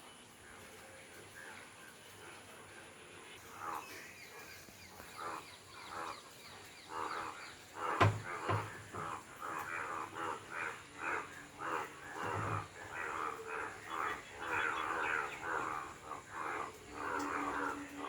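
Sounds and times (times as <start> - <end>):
frogs croaking: 0.1 - 18.0.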